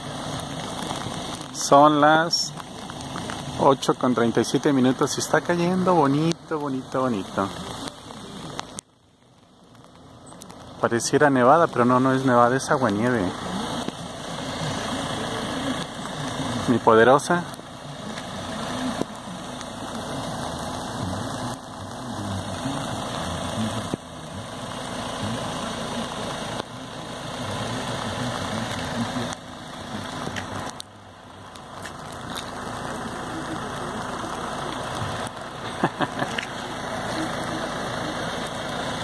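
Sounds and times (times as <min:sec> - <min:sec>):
van engine idling: 0:00.0 - 0:39.0.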